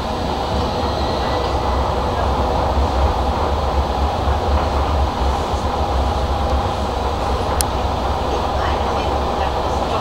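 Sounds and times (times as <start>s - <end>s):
tram wheels rumbling on rails: 0.0s - 10.0s.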